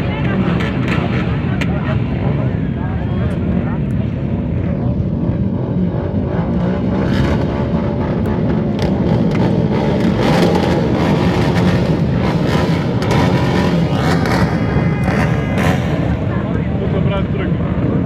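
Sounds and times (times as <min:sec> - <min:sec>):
engines revving: 0:00.0 - 0:18.0
quad bike engines droning: 0:00.0 - 0:18.0.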